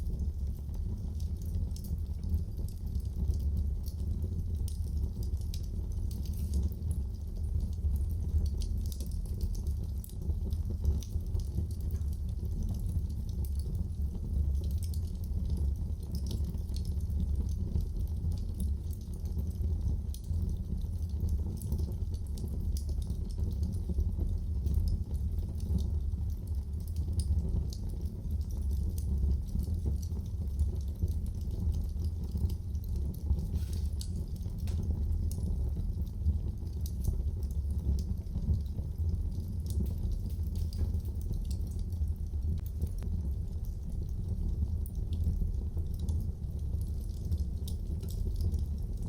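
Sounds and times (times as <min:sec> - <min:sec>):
fire crackling and popping: 0:00.0 - 0:49.0
low rumble of flame: 0:00.0 - 0:49.0.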